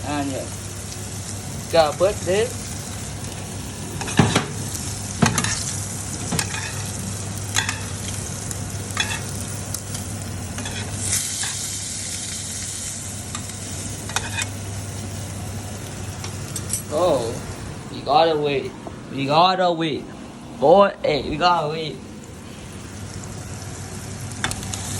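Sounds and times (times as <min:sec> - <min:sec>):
steak sizzling in a frying pan: 0:00.0 - 0:17.4, 0:22.2 - 0:24.9.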